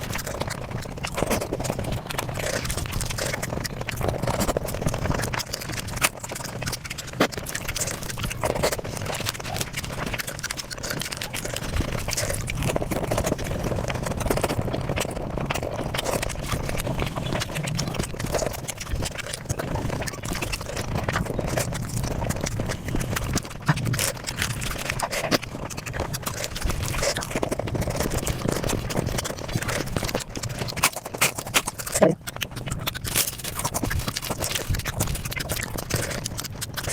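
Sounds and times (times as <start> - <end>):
sped-up chewing and crunching: 0.0 - 36.9.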